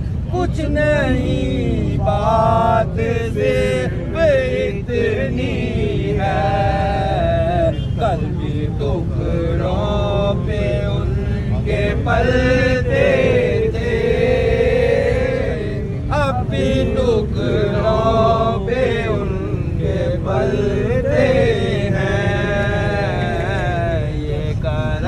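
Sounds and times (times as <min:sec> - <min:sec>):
slow chanted vocal: 0:00.0 - 0:25.0
steady low hum: 0:00.0 - 0:25.0.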